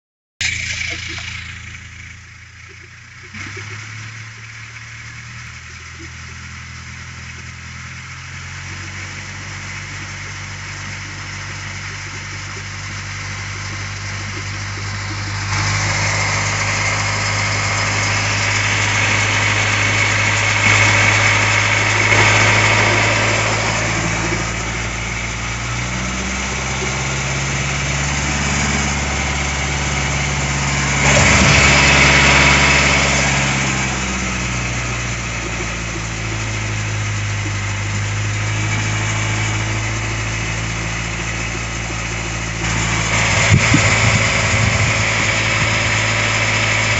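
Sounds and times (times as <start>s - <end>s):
diesel car engine idling: 0.4s - 46.9s.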